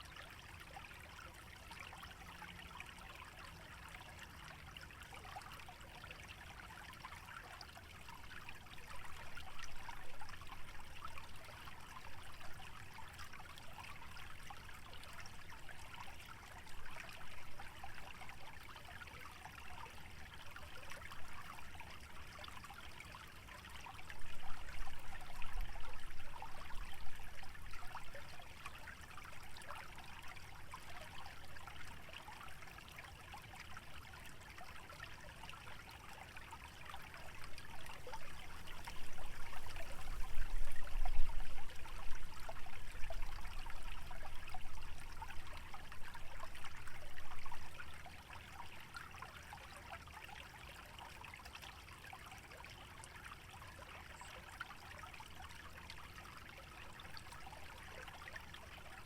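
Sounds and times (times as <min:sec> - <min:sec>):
stream trickling and bubbling: 0:00.0 - 0:59.0.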